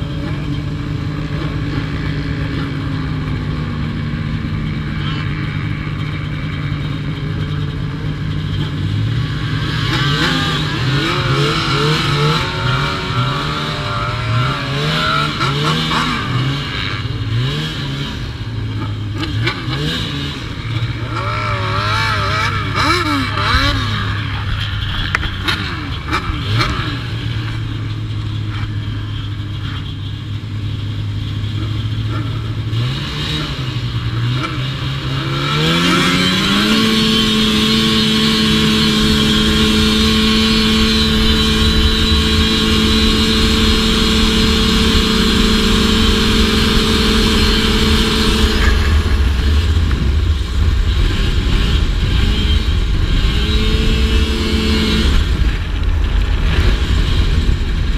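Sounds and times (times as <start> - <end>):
snowmobile engine revving: 0.0 - 29.8, 31.6 - 57.9.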